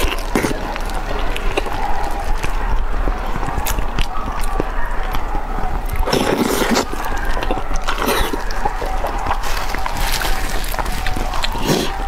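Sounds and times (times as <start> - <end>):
wet chewing mouth sounds: 0.0 - 12.0.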